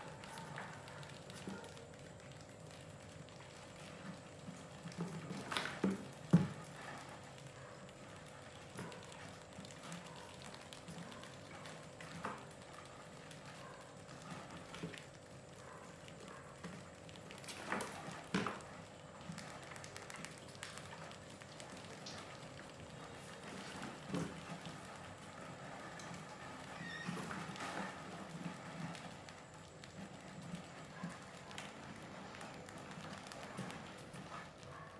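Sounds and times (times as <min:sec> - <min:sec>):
rats scrabbling and scratching: 0:00.0 - 0:34.9.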